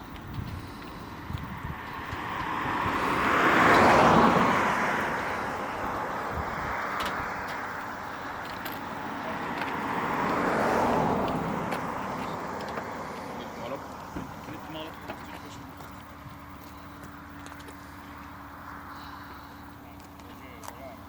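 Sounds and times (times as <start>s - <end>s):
road vehicle driving past: 0.5s - 20.3s.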